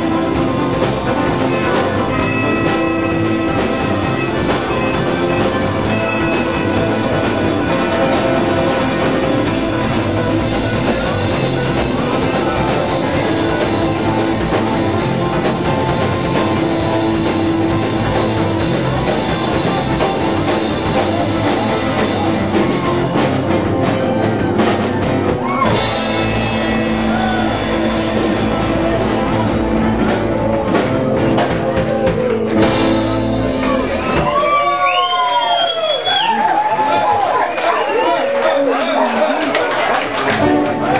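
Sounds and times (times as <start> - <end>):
drum kit: 0.0 - 38.1, 39.4 - 40.9
guitar: 0.0 - 40.9.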